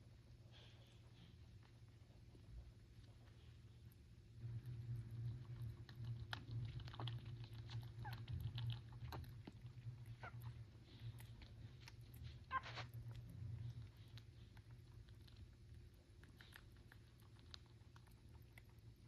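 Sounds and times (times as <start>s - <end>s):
steady low hum: 0.0s - 19.0s
small irregular clicks and ticks: 1.0s - 19.0s.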